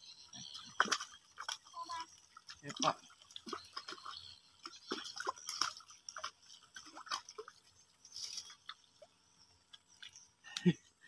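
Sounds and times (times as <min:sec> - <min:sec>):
fish splashing in water: 0:00.0 - 0:10.4
water dripping: 0:00.1 - 0:10.9.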